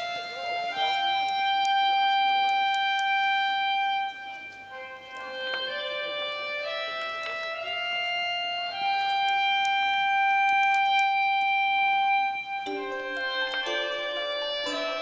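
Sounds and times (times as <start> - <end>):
slow melody of held notes: 0.0 - 15.0.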